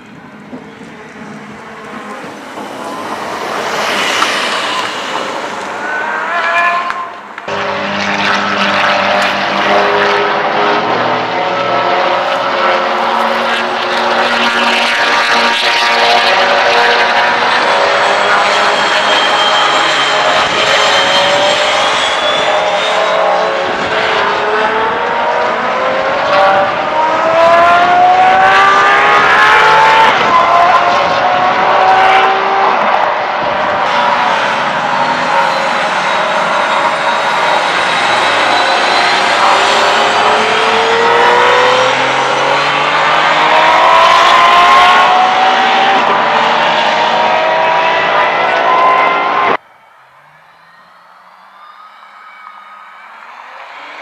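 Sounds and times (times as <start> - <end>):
race car engine revving high: 0.7 - 49.6.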